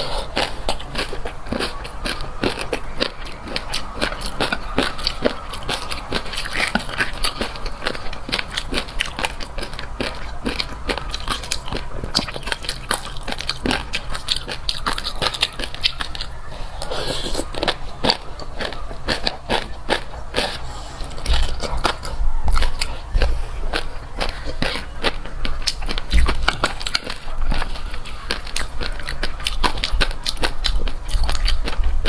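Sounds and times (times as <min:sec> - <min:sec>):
chewing: 0:00.0 - 0:32.0.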